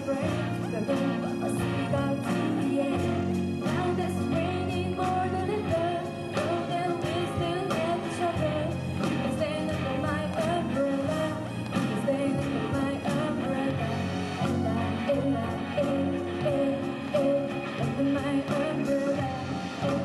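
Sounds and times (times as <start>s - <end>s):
live pop-rock band: 0.0s - 20.0s
woman singing: 0.0s - 20.0s.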